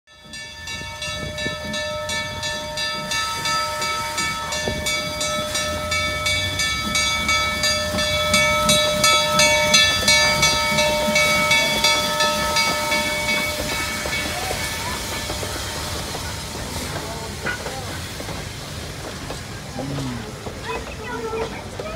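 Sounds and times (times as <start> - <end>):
steam locomotive exhaust beats: 0.1 - 21.9.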